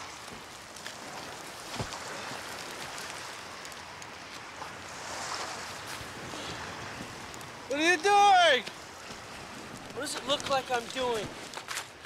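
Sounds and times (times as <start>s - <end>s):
surf on a rocky shore: 0.0s - 12.0s.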